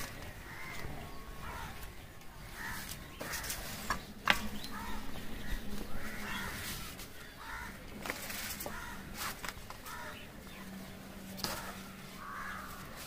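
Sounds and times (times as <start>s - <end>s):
leaves crackling on steel plate: 0.0s - 13.0s
crows cawing: 0.4s - 3.7s, 4.7s - 10.4s, 11.4s - 13.0s.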